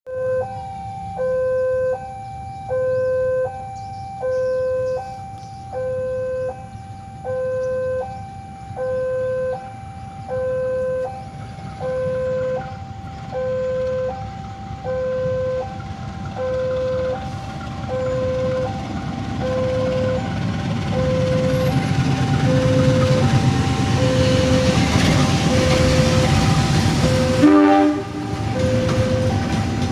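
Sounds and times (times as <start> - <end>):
diesel locomotive rumble: 0.1 - 29.9
two-tone railway crossing alarm: 0.1 - 29.9.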